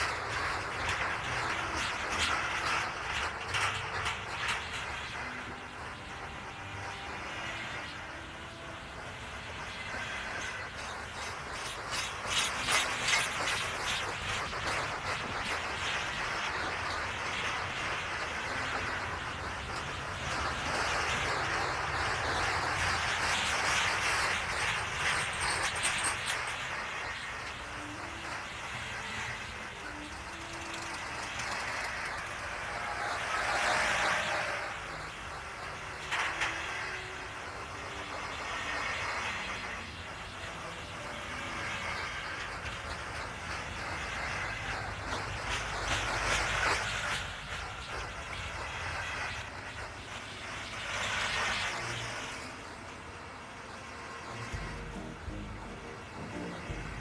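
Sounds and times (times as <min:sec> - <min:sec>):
freight train rolling past: 0:00.0 - 0:57.0
steel wheels hissing on rails: 0:00.0 - 0:57.0.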